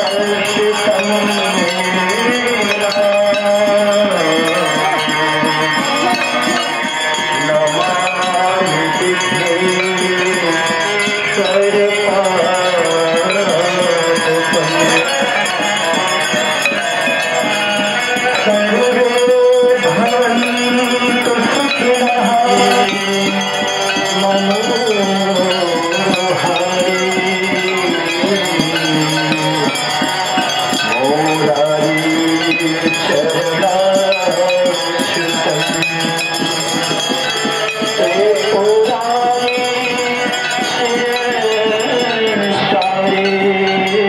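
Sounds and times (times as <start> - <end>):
hand bells and rattles jingling: 0.0 - 44.0
wavering melody over drone: 0.0 - 44.0.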